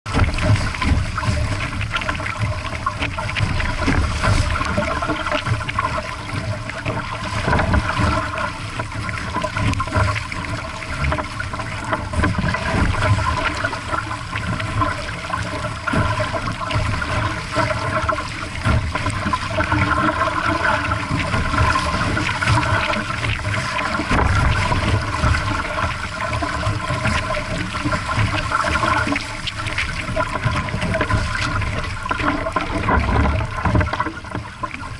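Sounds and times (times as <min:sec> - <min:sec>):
water splashing along hull: 0:00.0 - 0:34.9.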